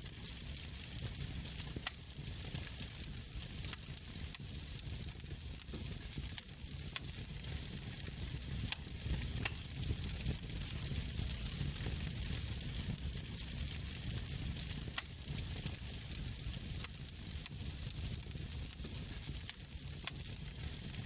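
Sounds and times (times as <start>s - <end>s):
wood fire crackling: 0.0s - 21.0s
sharp pops from fire: 0.2s - 21.0s.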